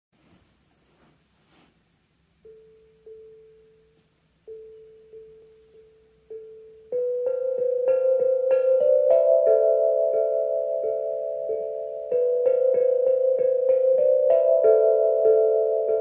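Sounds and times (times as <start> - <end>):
steel tongue drum tune: 2.4 - 16.0.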